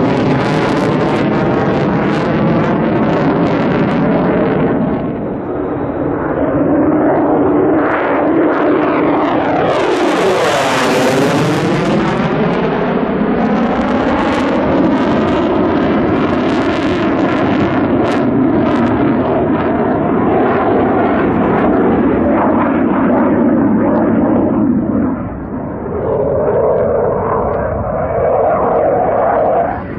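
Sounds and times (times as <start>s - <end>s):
fighter jet flying past: 0.0s - 29.9s.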